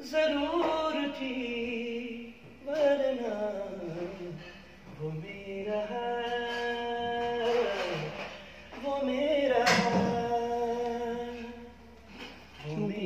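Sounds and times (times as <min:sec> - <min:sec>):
man singing unaccompanied: 0:00.0 - 0:11.9, 0:12.5 - 0:13.0.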